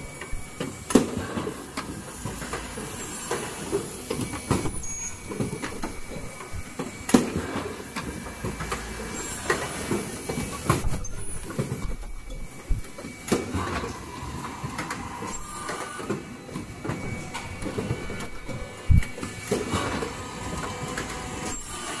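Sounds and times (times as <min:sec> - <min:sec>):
machine clattering clicks and knocks: 0:00.0 - 0:22.0.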